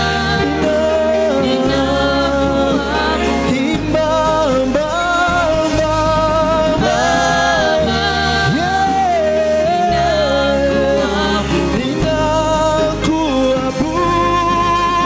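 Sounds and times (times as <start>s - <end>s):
singers singing gospel song: 0.0s - 15.0s.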